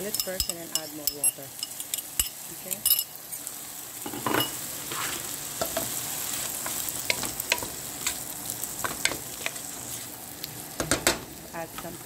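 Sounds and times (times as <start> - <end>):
soup sizzling in a pot: 0.0 - 12.0.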